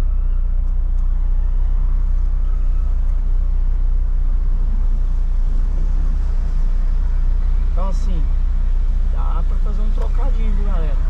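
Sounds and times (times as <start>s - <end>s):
car engine running at low speed: 0.0s - 11.0s.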